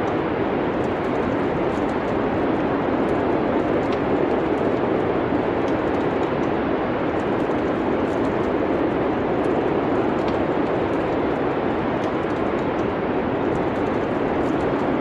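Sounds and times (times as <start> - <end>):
storm wind: 0.0 - 15.0
wood fire crackling: 0.6 - 15.0.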